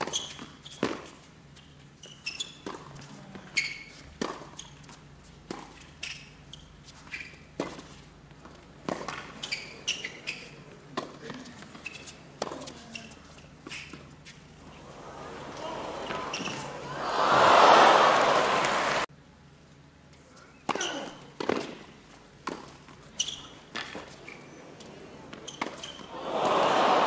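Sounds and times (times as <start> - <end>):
tennis shoes squeaking: 0.0 - 17.0, 20.4 - 27.0.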